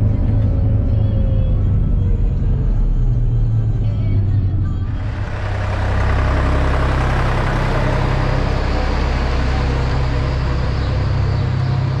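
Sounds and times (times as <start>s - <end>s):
diesel farm machinery engine: 0.0s - 12.0s.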